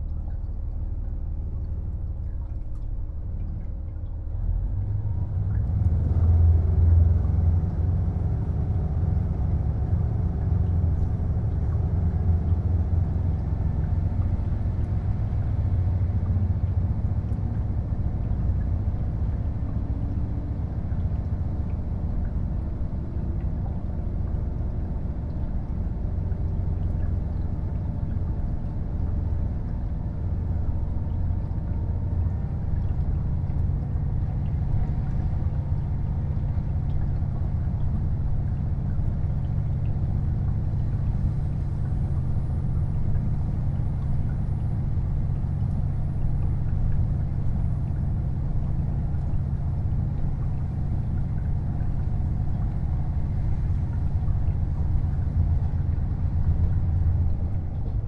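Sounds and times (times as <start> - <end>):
diesel engine drone: 0.0 - 58.0
wheel and track rumble: 4.4 - 58.0.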